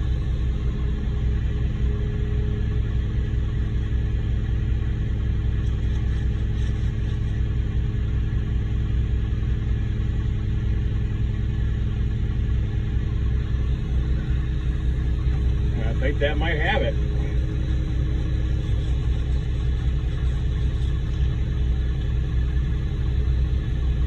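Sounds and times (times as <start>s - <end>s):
steady hum: 0.0s - 24.0s
truck diesel engine running: 0.0s - 24.0s.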